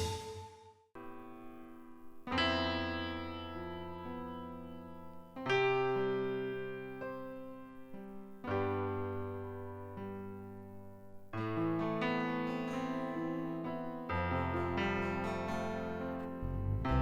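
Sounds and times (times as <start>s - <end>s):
slow piano chords: 1.0s - 17.0s.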